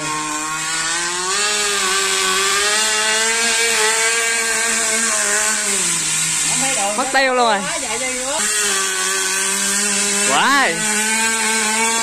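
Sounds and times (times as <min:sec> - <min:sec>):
two-stroke speedboat engine whine: 0:00.0 - 0:12.0.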